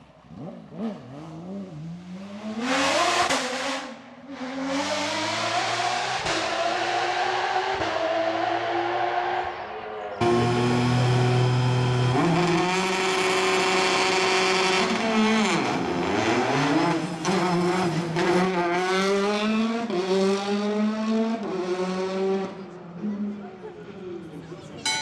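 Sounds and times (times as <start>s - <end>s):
rally car engine revving: 0.3s - 23.4s.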